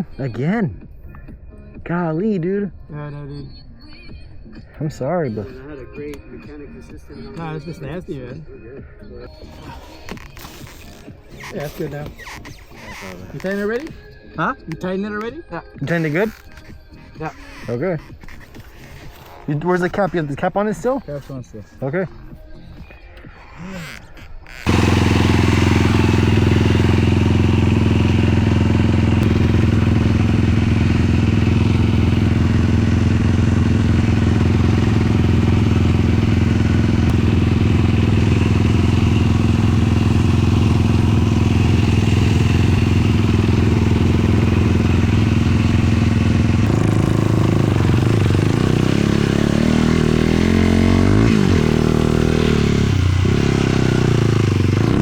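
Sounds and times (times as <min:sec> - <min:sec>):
atv engine idling and revving: 0:09.2 - 0:22.9, 0:23.8 - 0:55.0.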